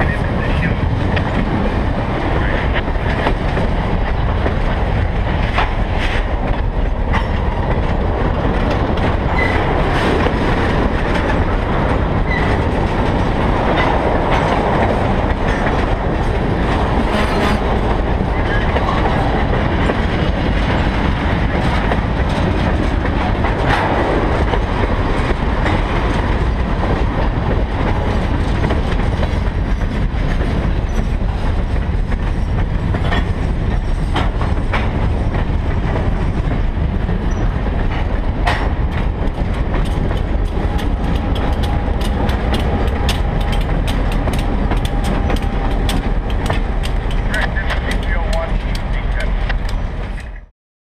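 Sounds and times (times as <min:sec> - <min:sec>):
freight train cars rolling past: 0:00.0 - 0:50.5
wheel clacks over rail joints: 0:02.5 - 0:50.5.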